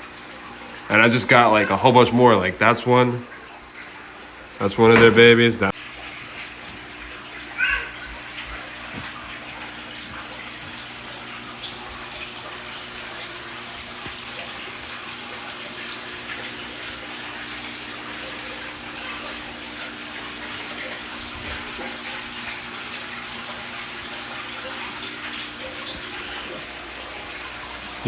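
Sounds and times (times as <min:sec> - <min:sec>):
aquarium water running and splashing: 0:00.0 - 0:28.0.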